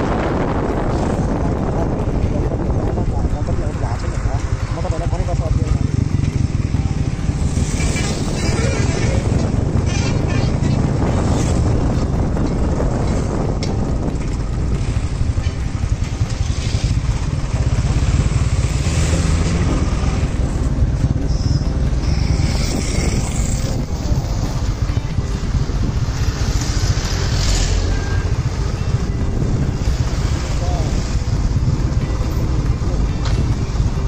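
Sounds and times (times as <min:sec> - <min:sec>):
motorcycles passing: 0:00.0 - 0:34.0
trucks passing: 0:00.0 - 0:34.0
vehicle rumble in traffic: 0:00.0 - 0:34.0
wind on microphone: 0:00.0 - 0:34.0.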